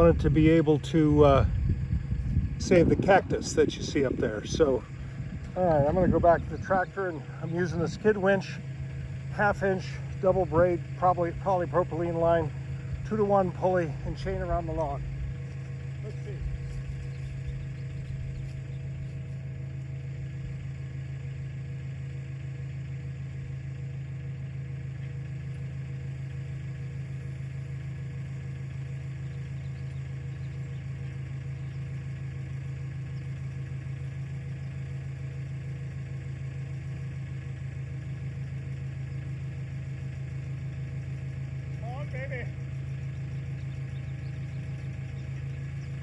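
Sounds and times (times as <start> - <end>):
tractor engine droning: 0.0 - 46.0.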